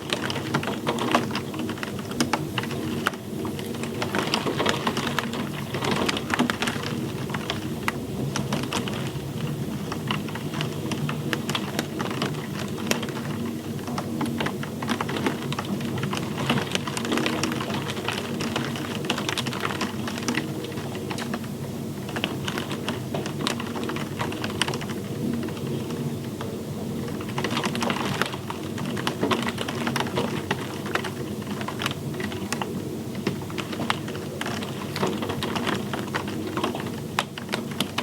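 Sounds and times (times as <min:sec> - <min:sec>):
rain on a hard surface: 0:00.0 - 0:38.0.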